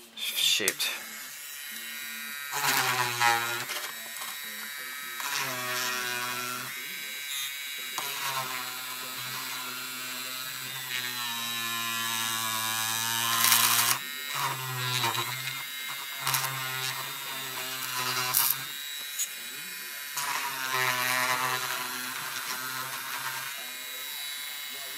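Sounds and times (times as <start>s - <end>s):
harsh grinding rasp: 0.0s - 24.9s
rotary tool grinding plastic: 0.0s - 24.9s.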